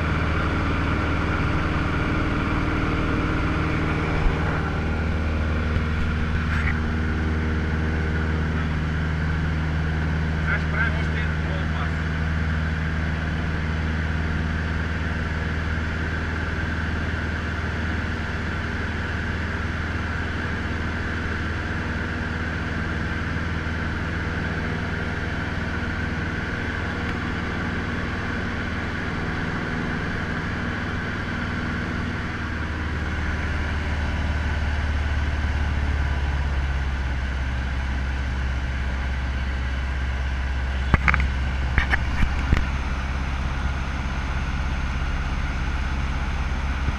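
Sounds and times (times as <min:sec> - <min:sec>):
light aircraft engine and propeller: 0:00.0 - 0:46.9.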